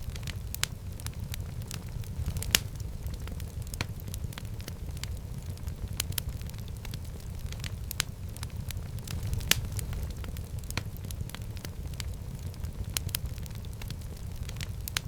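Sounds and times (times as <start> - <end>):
fire popping and crackling: 0.0 - 15.0
low rumble of flames: 0.0 - 15.0.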